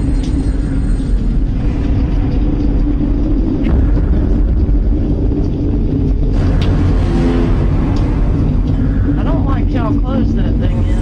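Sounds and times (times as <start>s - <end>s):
higher hum: 0.0s - 11.0s
low droning rumble: 0.0s - 11.0s.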